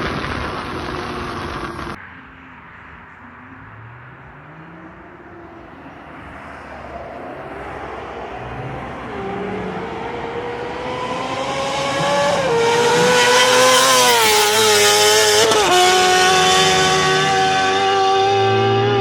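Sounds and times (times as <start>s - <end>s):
motorcycle engine revving: 3.5s - 19.0s.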